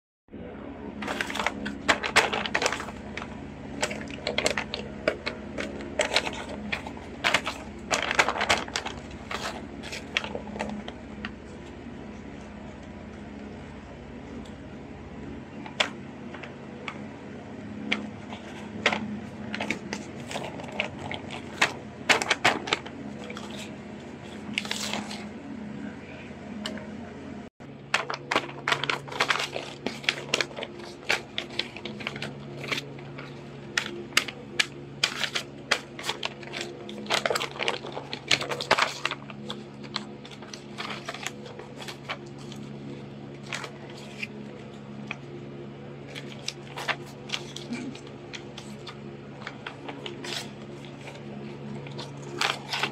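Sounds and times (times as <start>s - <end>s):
steady low hum: 0.3s - 52.9s
paper rustling: 0.9s - 26.8s, 27.6s - 52.9s.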